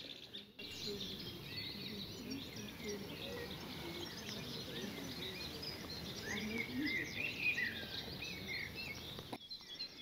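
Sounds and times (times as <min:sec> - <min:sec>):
birds chirping and singing: 0:00.0 - 0:10.0.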